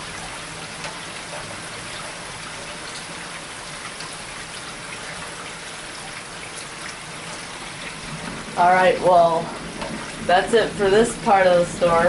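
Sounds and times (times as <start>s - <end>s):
raindrop ticks: 0.0s - 12.0s
steady rain hiss: 0.0s - 12.0s.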